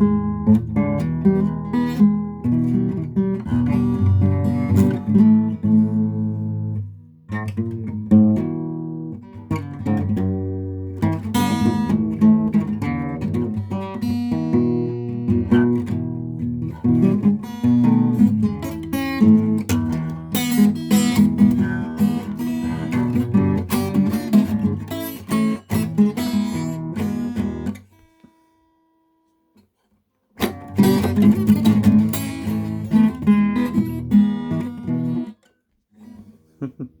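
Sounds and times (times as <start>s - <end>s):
blues guitar playing: 0.0s - 27.8s, 30.4s - 35.4s.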